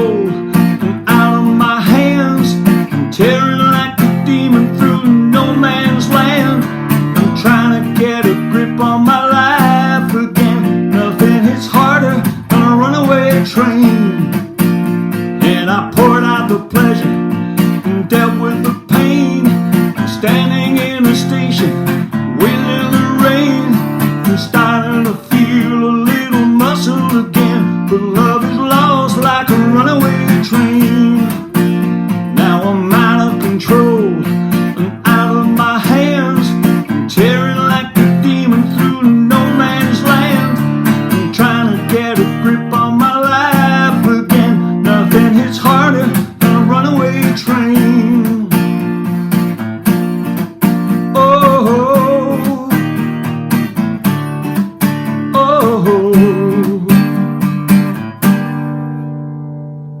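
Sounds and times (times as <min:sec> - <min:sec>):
acoustic guitar strumming: 0:00.0 - 1:00.0.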